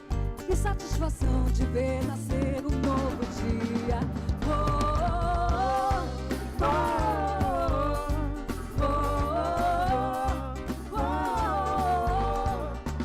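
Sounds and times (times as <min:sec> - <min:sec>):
band music with bass and drums: 0:00.0 - 0:13.0.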